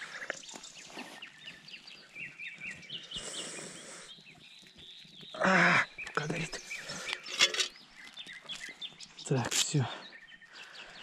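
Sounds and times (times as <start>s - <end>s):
wild birds chirping and whistling: 0.0s - 11.0s.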